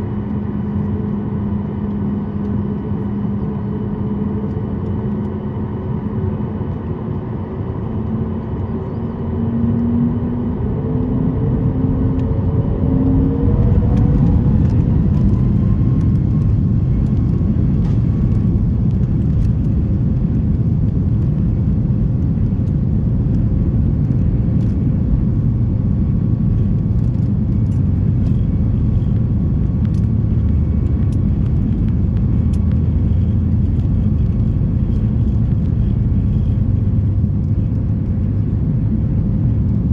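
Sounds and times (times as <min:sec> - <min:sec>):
loud cabin rumble: 0:00.0 - 0:39.9.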